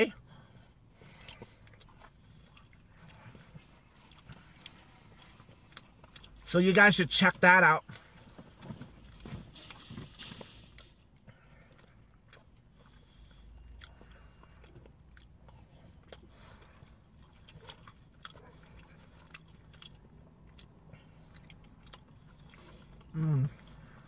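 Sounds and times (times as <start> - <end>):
low steady hum: 0.0 - 24.0
faint chewing: 0.2 - 6.6, 7.8 - 24.0.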